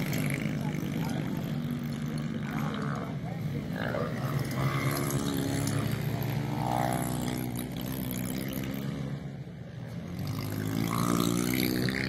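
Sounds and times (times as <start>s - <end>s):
pit bike engines droning: 0.0s - 12.0s.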